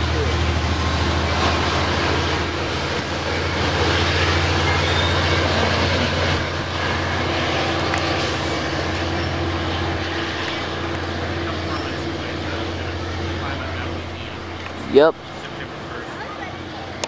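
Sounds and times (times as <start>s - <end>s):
diesel locomotive humming: 0.0s - 17.0s.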